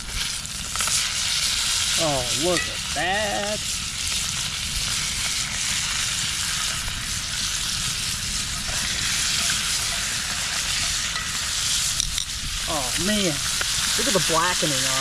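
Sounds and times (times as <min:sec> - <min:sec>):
fish sizzling in a skillet: 0:00.0 - 0:15.0.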